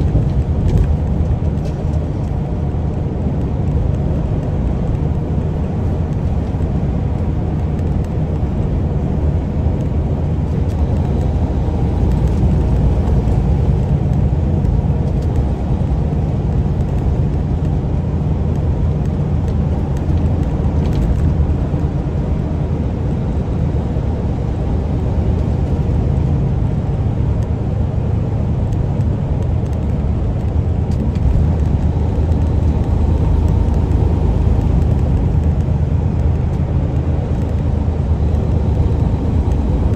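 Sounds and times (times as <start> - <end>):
road noise: 0.0 - 39.9
truck diesel engine hum: 0.0 - 39.9.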